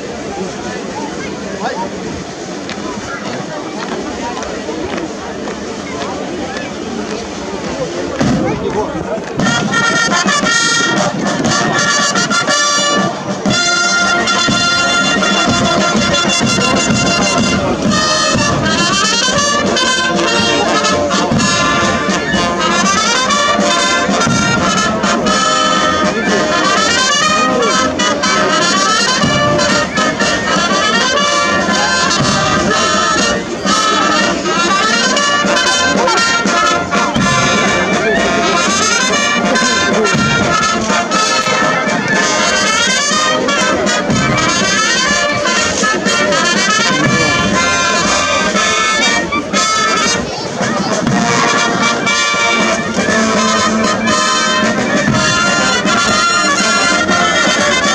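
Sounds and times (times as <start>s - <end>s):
brass band playing a march: 0.0s - 57.9s.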